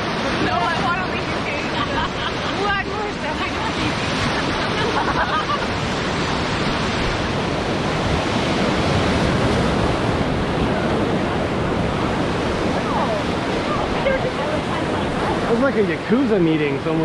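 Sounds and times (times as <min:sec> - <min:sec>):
whitewater river rapids rushing: 0:00.0 - 0:17.0.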